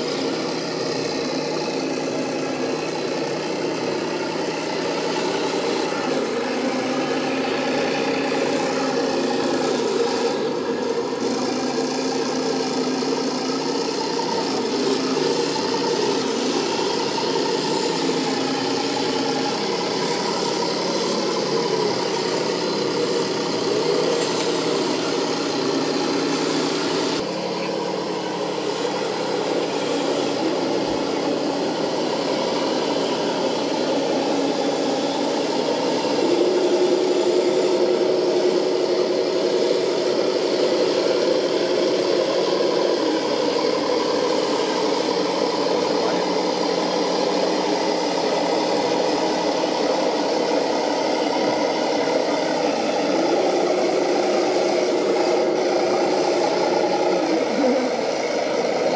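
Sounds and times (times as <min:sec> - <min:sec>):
simulated tank engine drone: 0:00.0 - 0:58.9.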